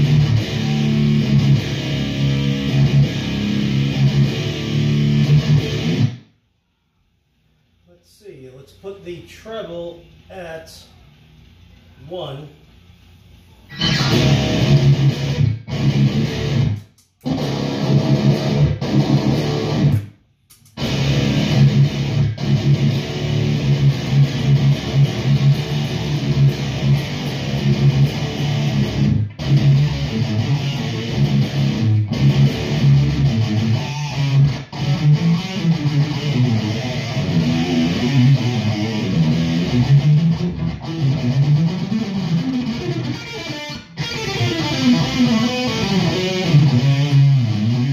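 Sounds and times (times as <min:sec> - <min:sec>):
distorted electric guitar riffing: 0:00.0 - 0:06.2, 0:13.7 - 0:20.1, 0:20.8 - 0:47.9.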